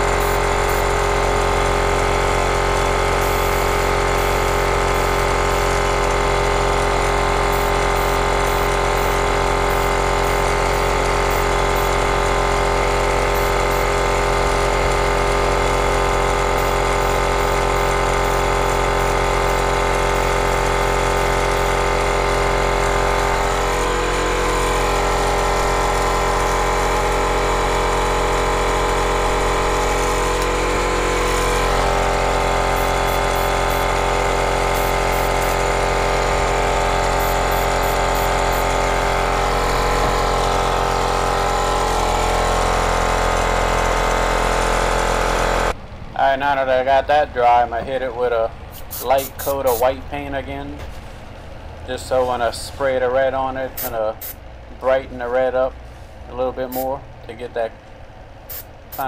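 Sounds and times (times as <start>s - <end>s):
airbrush compressor humming: 0.0s - 45.8s, 48.7s - 49.9s, 53.6s - 54.4s, 55.8s - 57.0s, 58.4s - 59.0s.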